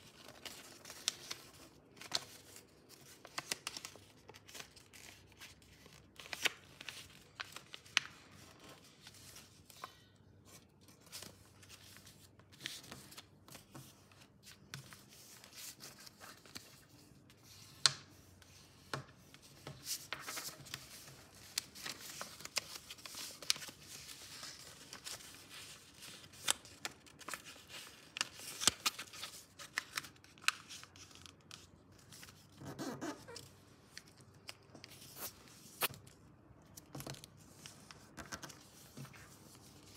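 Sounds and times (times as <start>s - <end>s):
paper rustling and crinkling: 0.0s - 17.8s, 18.5s - 39.9s.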